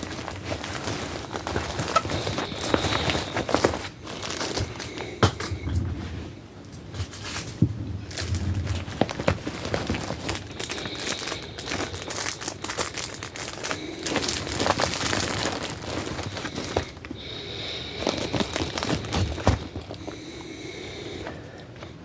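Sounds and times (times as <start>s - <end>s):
packaging crinkling and rustling: 0.0s - 5.6s, 6.8s - 20.5s.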